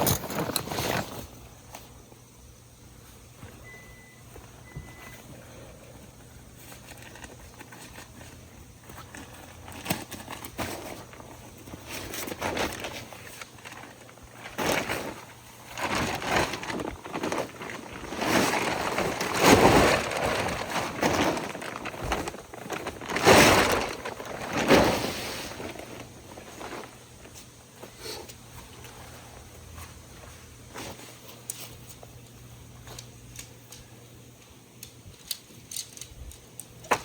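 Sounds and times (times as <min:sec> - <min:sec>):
crunching and rustling handling: 0:03.0 - 0:33.1.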